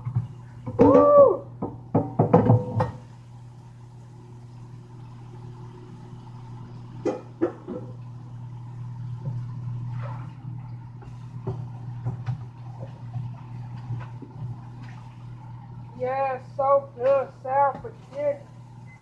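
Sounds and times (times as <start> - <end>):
appliance electrical hum: 0.0 - 19.0.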